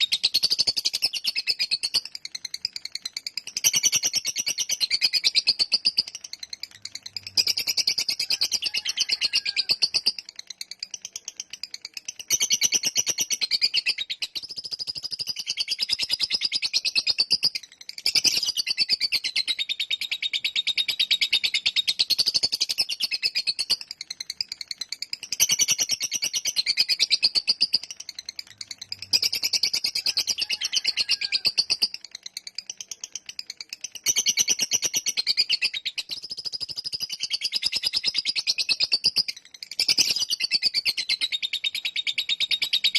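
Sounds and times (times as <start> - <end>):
lovebird high-pitched chatter: 0.0 - 42.9.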